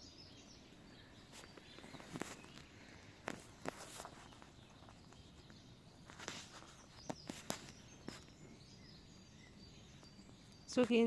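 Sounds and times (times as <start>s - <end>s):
bird chirps: 0.0s - 11.0s.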